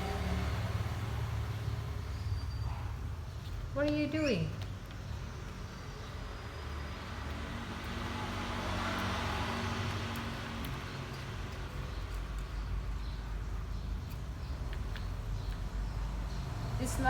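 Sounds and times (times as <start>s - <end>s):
vehicle passing: 0.0s - 4.5s, 5.1s - 17.0s
steady low traffic rumble: 0.0s - 17.0s.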